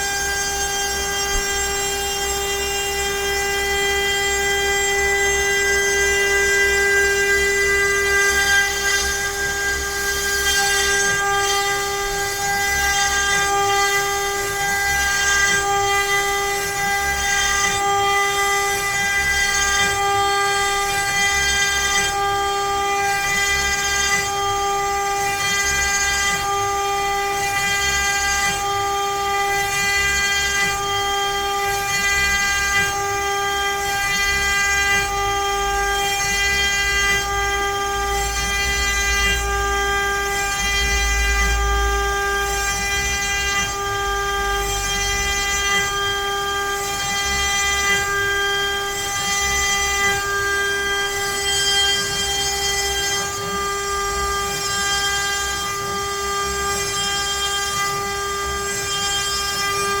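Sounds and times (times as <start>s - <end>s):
router spindle whining: 0.0s - 60.0s.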